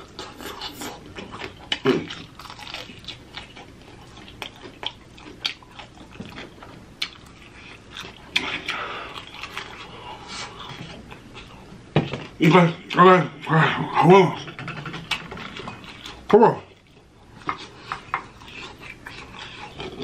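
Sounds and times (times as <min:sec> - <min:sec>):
chewing and lip-smacking: 0:00.0 - 0:13.0, 0:14.8 - 0:20.0.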